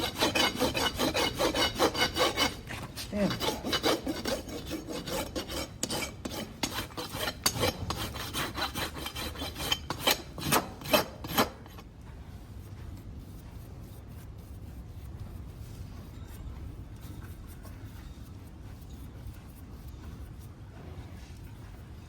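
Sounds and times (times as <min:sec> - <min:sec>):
rasp rubbing on hoof: 0:00.0 - 0:11.9, 0:12.5 - 0:22.0.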